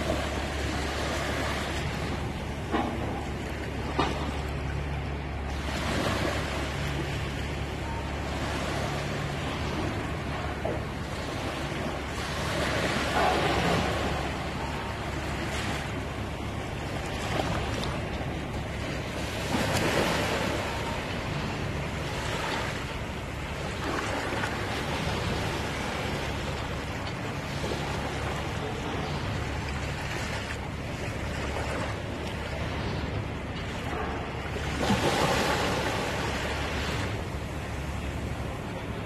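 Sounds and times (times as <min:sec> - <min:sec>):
small waves lapping on sand: 0:00.0 - 0:04.4, 0:05.4 - 0:38.3.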